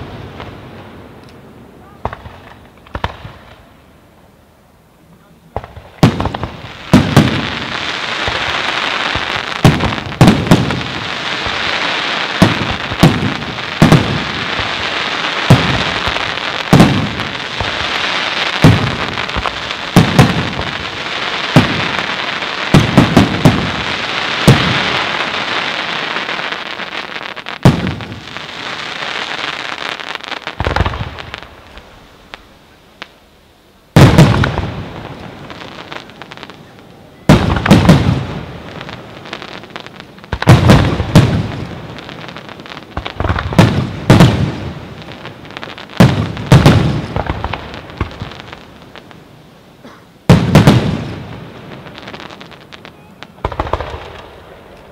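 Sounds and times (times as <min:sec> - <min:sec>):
crackle of burning fireworks: 0:00.0 - 0:54.9.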